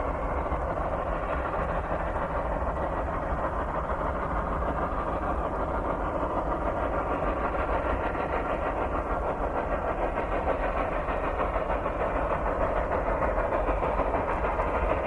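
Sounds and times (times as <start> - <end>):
steam locomotives chuffing: 0.0 - 15.0.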